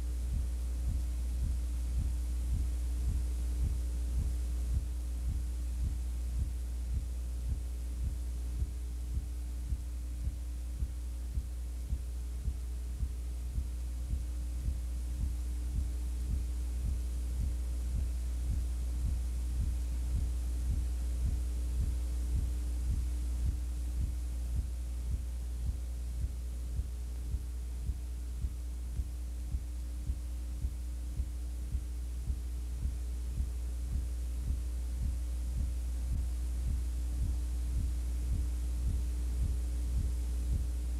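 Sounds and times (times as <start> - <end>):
low electrical hum: 0.0 - 40.9
soft regular pulse: 0.0 - 40.9.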